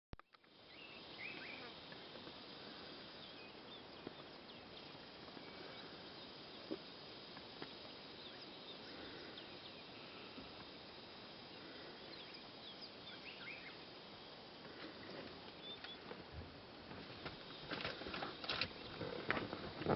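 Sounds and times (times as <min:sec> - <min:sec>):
steady hiss: 0:00.3 - 0:19.9.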